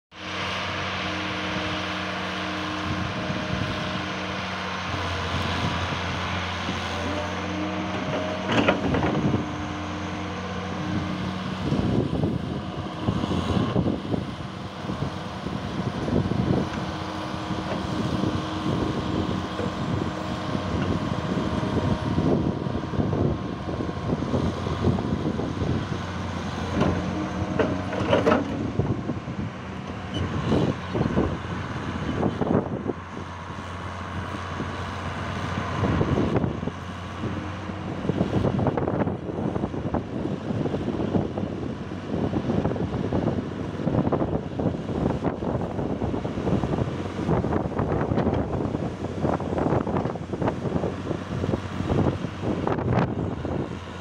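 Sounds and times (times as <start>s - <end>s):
excavator diesel engine running: 0.2s - 54.0s.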